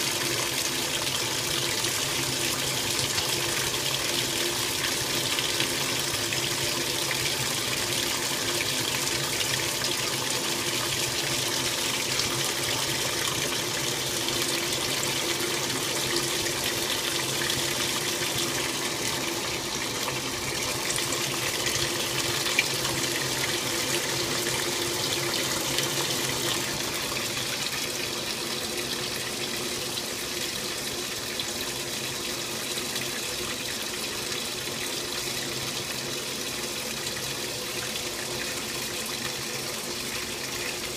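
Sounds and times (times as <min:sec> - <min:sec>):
washing machine water sloshing: 0:00.0 - 0:40.9.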